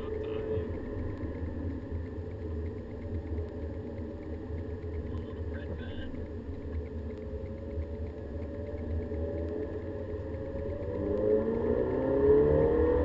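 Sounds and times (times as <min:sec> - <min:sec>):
car engine inside cabin: 0:00.0 - 0:13.0
road noise: 0:00.0 - 0:13.0.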